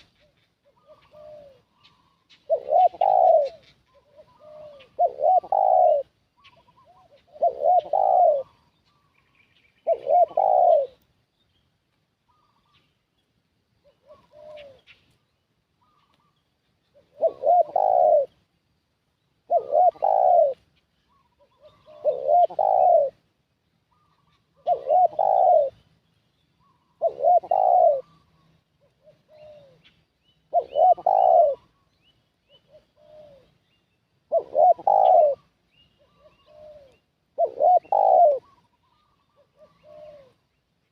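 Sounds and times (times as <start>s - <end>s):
dove cooing: 0.0s - 9.2s, 9.8s - 11.0s, 13.8s - 15.0s, 15.8s - 18.5s, 19.4s - 23.2s, 23.9s - 25.9s, 26.6s - 31.9s, 32.5s - 33.6s, 34.2s - 40.5s.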